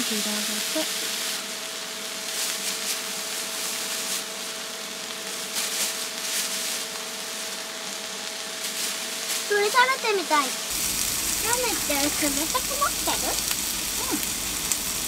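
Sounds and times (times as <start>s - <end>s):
food sizzling on a griddle: 0.0s - 15.0s
steady hum: 0.0s - 15.0s.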